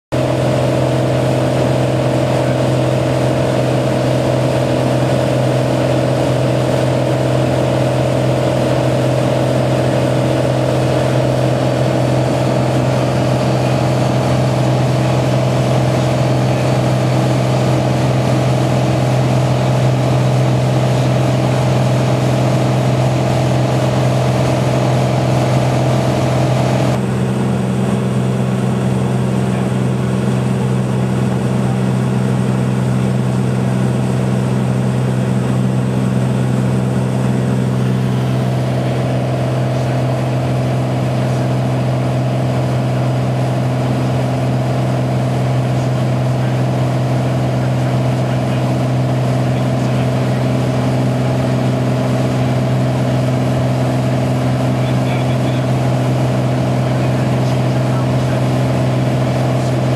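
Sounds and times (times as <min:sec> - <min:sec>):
aircraft engine and propeller droning: 0:00.1 - 0:59.9.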